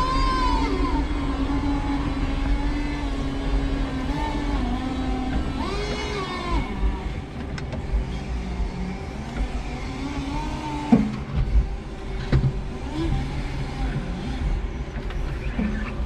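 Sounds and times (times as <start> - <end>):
electric forklift motors whining: 0.0 - 16.0
low rumble: 0.0 - 16.0.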